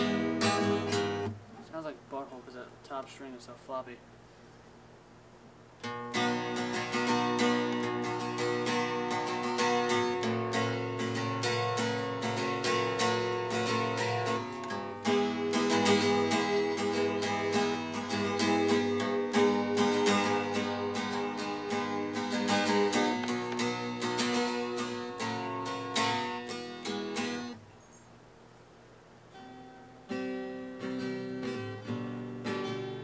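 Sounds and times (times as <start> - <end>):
acoustic guitar strumming: 0.0 - 4.0, 5.8 - 27.7, 29.2 - 33.0.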